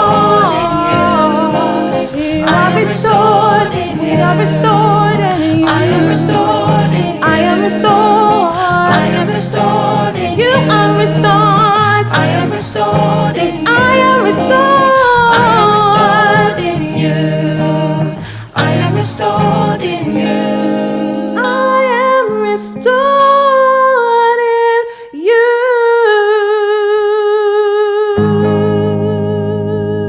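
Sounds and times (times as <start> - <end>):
acoustic guitar: 0.0 - 25.1, 28.2 - 30.0
woman singing wordless notes: 0.0 - 30.0.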